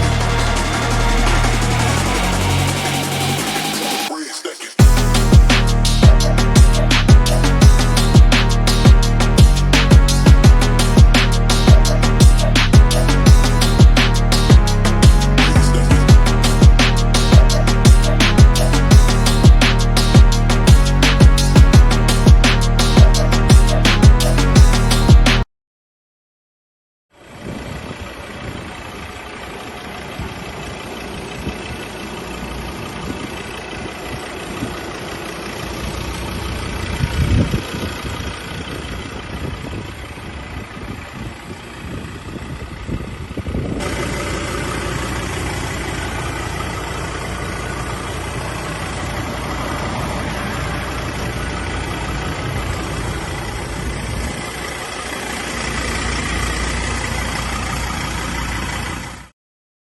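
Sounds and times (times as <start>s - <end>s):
diesel engine idling: 0.0s - 25.1s, 27.2s - 59.3s.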